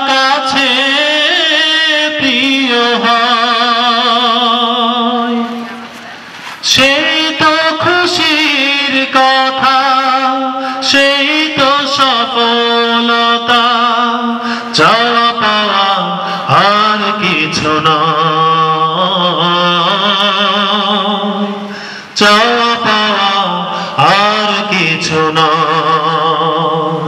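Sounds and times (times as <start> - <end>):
man singing solo: 0.0 - 27.0.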